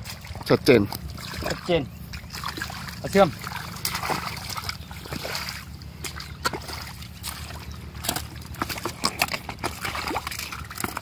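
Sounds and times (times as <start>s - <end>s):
mud squelching and splatting: 0.0s - 11.0s.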